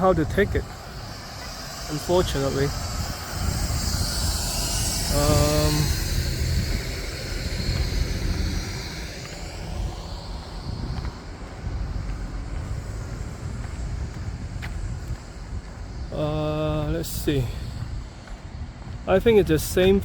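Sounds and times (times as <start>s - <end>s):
vehicle passing by hiss: 0.0s - 18.2s
traffic rumble: 0.0s - 20.0s.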